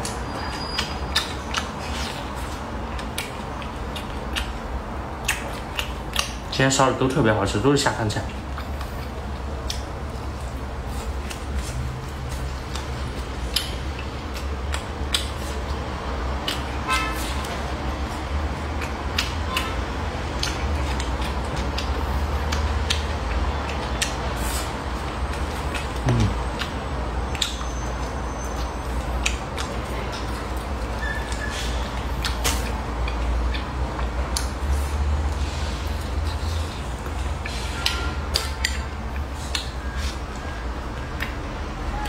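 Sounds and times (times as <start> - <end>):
chewing smacks: 0.0 - 6.6, 8.3 - 41.5.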